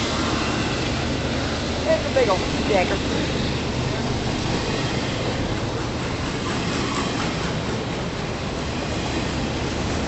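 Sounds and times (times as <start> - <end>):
train wheels on rail: 0.0 - 10.0.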